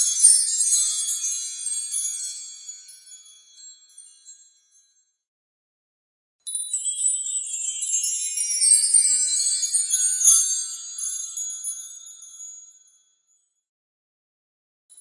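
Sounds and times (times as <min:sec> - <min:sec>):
high tinkling chimes: 0:00.0 - 0:05.1, 0:06.5 - 0:13.6.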